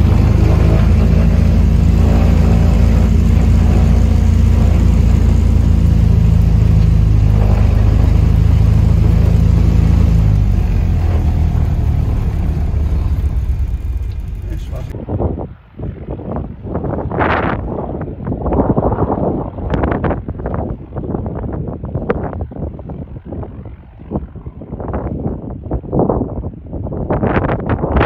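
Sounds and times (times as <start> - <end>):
propeller aircraft engine drone: 0.0 - 28.0.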